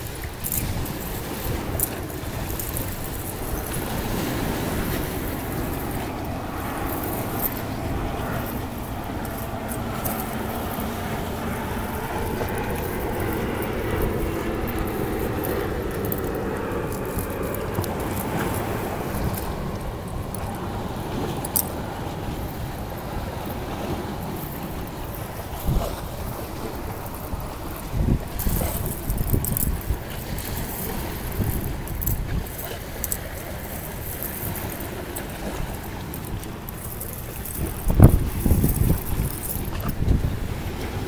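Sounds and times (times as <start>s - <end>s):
waves washing over pebbles: 0.0s - 41.0s
wind rumbling on microphone: 0.0s - 41.0s.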